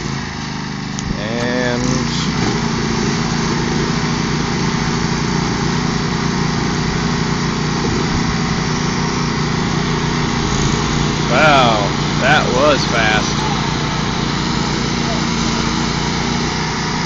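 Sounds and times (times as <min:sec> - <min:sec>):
riding lawn tractor engines: 0:00.0 - 0:17.0.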